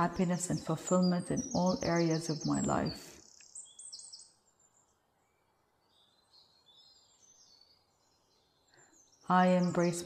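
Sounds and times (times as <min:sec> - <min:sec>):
faint bird chirps: 0:00.5 - 0:10.0.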